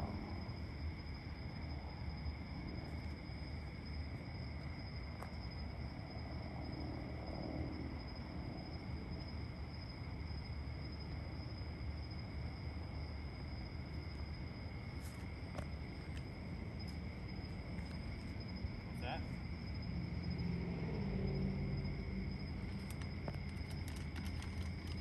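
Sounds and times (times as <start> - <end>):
crickets and insects trilling: 0.0 - 25.0
low background rumble: 0.0 - 25.0.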